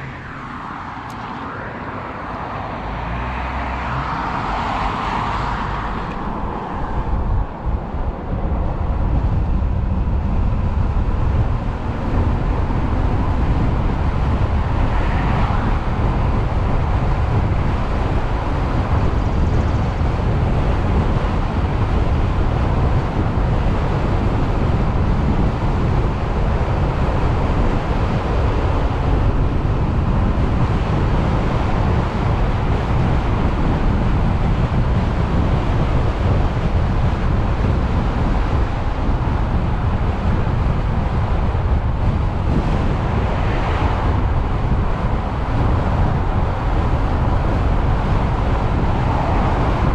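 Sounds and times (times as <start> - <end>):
road noise: 0.0 - 49.9
wind rushing over microphone: 0.0 - 49.9.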